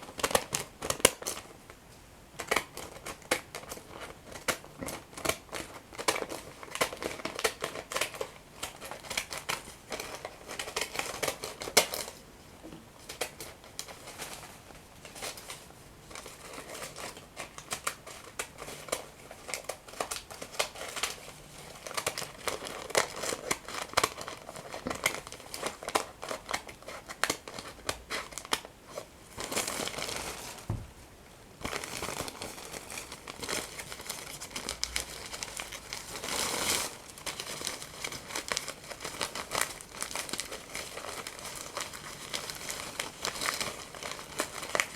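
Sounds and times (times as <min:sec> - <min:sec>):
paper crinkling and tearing: 0:02.4 - 0:12.2, 0:13.1 - 0:30.8, 0:31.6 - 0:44.9.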